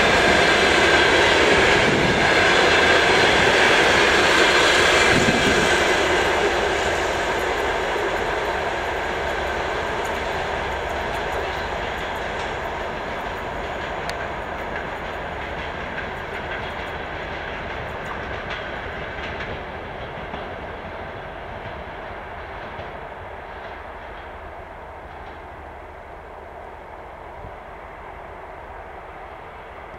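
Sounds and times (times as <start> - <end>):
coach wheels rumbling on rails: 0.0 - 29.9.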